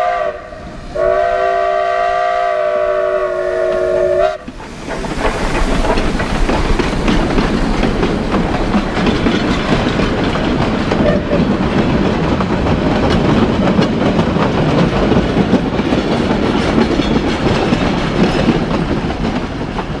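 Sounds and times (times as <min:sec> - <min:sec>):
train wheels clattering: 0:00.2 - 0:20.0.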